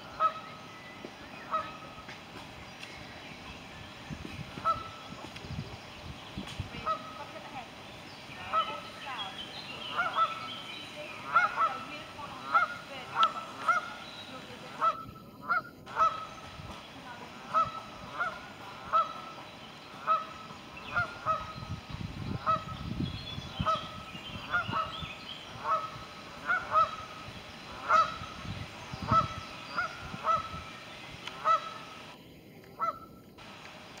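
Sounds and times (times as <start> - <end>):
geese honking: 0.0 - 0.7, 1.4 - 2.1, 4.5 - 5.2, 6.7 - 22.9, 23.5 - 32.2, 32.8 - 33.6.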